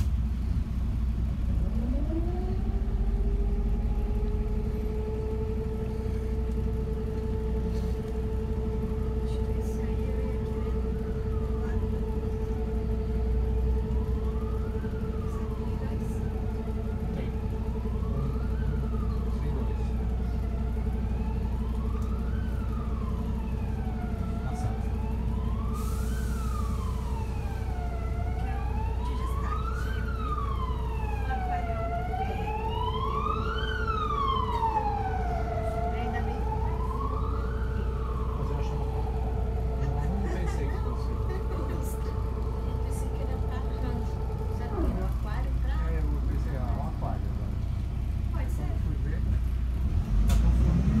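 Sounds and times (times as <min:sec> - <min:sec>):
bus engine droning: 0:00.0 - 0:51.0
emergency siren wailing: 0:00.0 - 0:51.0.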